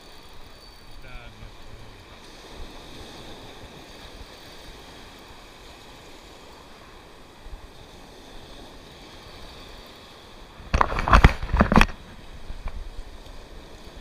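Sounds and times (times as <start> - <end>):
sea surf washing over rocks: 0.0 - 14.0.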